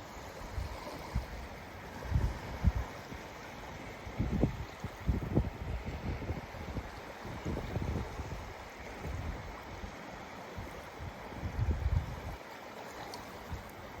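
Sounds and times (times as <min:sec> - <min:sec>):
lake waves splashing: 0:00.0 - 0:14.0
wind gusting on microphone: 0:00.2 - 0:10.0, 0:10.6 - 0:12.4.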